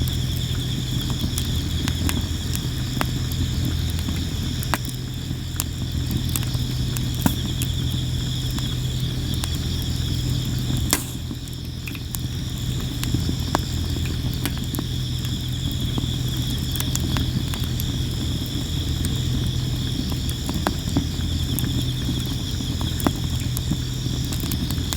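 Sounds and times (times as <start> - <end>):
firewood crackling and popping: 0.0 - 24.9
insects chirping: 0.0 - 24.9
low steady hum: 0.0 - 24.9.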